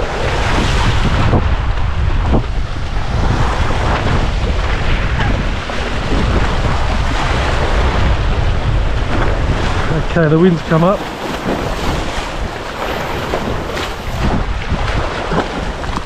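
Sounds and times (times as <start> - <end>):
waves splashing against rocks: 0.0 - 16.0
wind buffeting microphone: 0.0 - 16.0.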